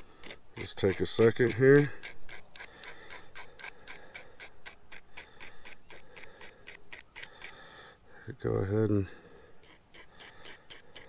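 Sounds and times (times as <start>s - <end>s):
hand file scraping metal: 0.0s - 7.6s, 9.6s - 11.0s.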